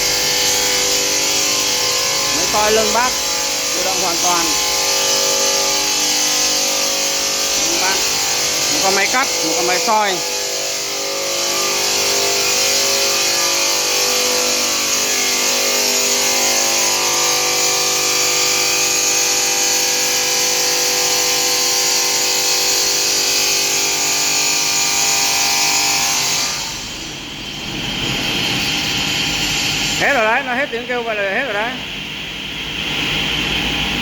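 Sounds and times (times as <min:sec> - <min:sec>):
stone cutting machine grinding: 0:00.0 - 0:31.6.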